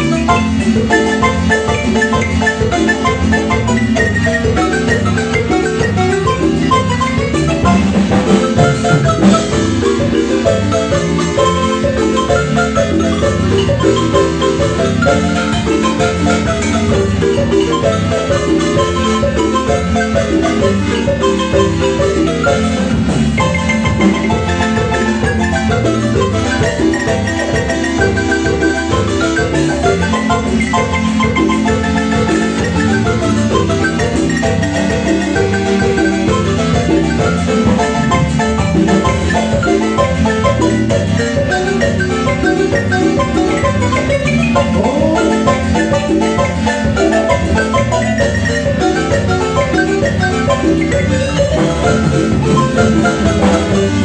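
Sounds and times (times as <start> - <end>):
bass line: 0.0 - 54.0
marimba notes: 0.0 - 54.0.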